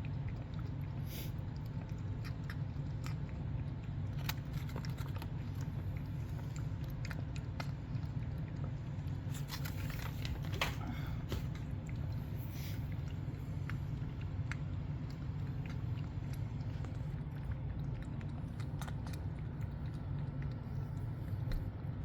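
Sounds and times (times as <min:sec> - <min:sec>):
cat lapping milk: 0:00.0 - 0:22.0
steady low hum: 0:00.0 - 0:22.0.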